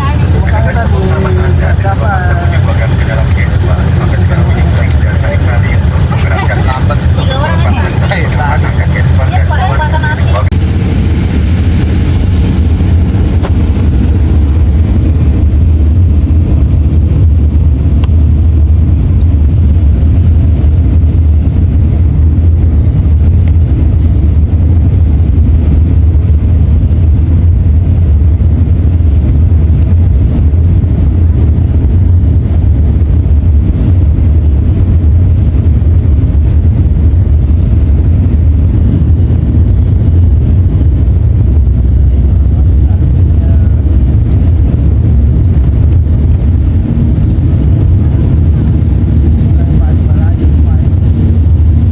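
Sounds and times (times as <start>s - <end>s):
jet airliner cabin rumble: 0.0s - 51.9s.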